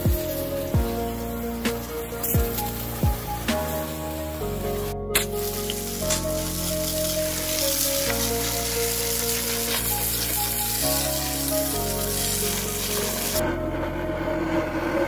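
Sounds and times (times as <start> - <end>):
water spray hissing and splashing: 0.0 - 13.4
background music: 0.0 - 15.0.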